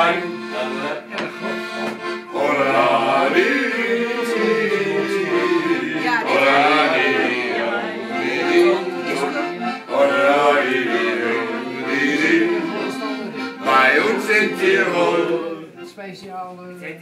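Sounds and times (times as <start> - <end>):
accordion playing folk tune: 0.0 - 16.6.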